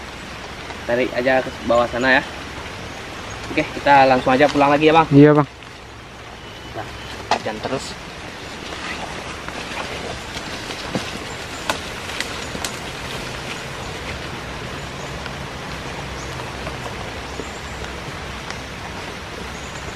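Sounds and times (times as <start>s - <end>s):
rain on leaves: 0.0s - 19.9s.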